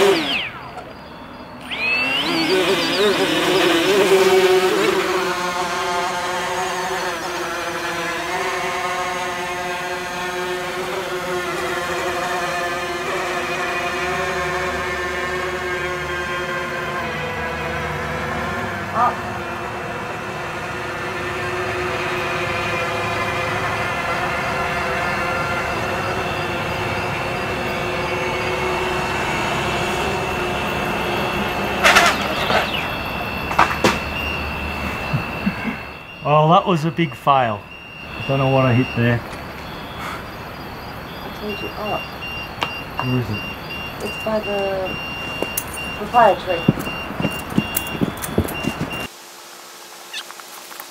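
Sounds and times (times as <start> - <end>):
drone motors buzzing: 0.0 - 50.9.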